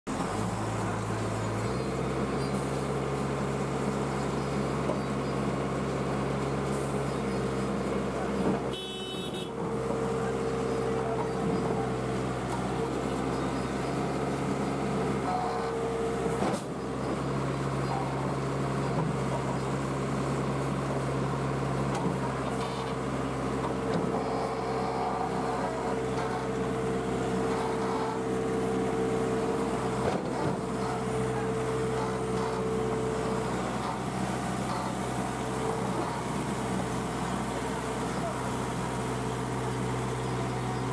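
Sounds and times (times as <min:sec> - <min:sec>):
diesel engine running under load: 0:00.1 - 0:40.9.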